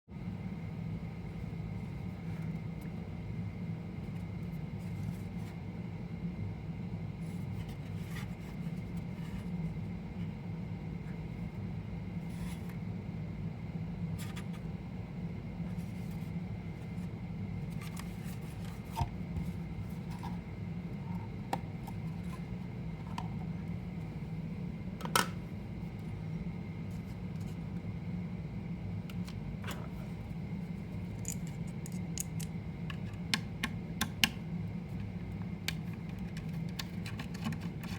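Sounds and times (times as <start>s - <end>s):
steady low hum: 0.1s - 37.9s.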